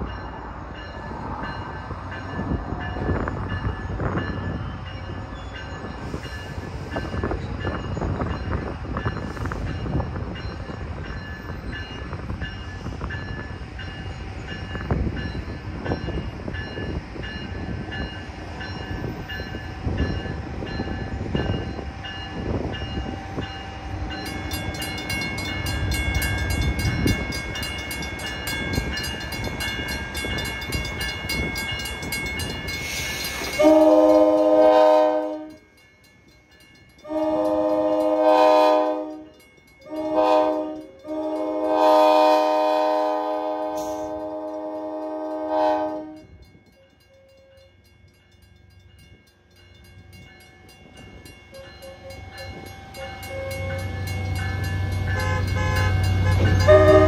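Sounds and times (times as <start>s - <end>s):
crossing warning bell ringing: 0.0s - 57.0s
train rumbling: 0.0s - 57.0s.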